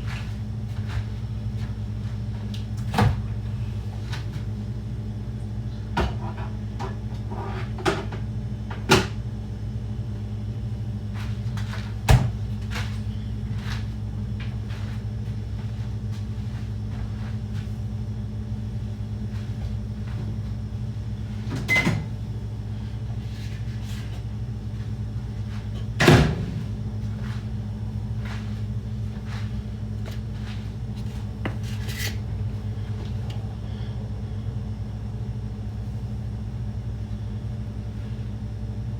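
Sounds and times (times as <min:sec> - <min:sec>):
appliance humming: 0:00.0 - 0:38.9.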